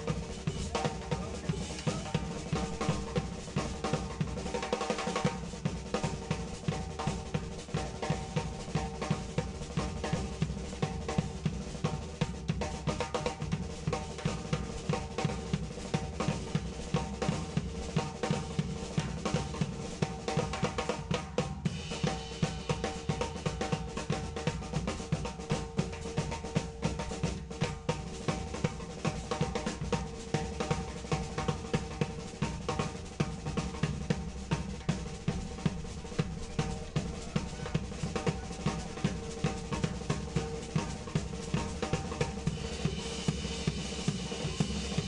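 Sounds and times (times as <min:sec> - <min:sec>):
drum kit beat: 0:00.0 - 0:45.0.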